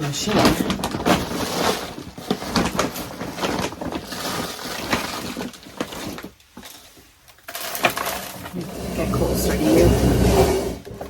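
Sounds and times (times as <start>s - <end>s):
wood chips crackling and rustling: 0.0s - 9.1s.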